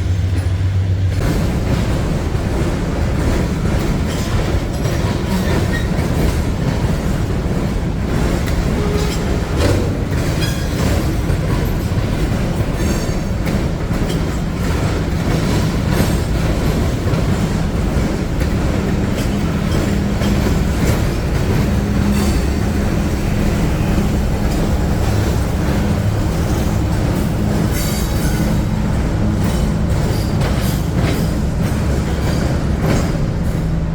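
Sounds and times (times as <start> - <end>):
freight train rumbling past: 0.0 - 33.9
rail car clanks: 0.0 - 33.9.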